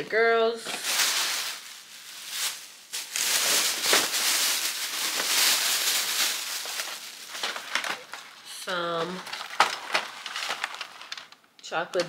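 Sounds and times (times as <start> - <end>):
plastic packaging crinkling: 0.5 - 12.0.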